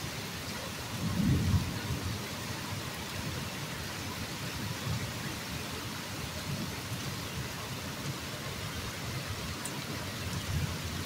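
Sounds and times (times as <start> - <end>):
heavy rain pouring on pavement: 0.0 - 11.0.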